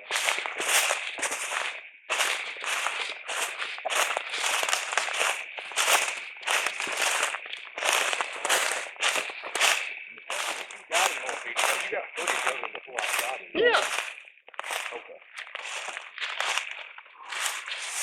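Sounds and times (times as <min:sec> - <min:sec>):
footsteps crunching through dry leaves: 0:00.0 - 0:18.0.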